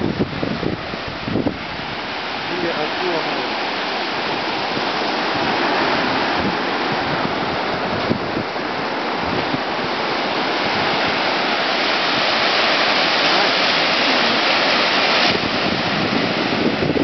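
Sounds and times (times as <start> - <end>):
ocean surf breaking: 0.0 - 17.0
wind bumps on microphone: 0.0 - 17.0.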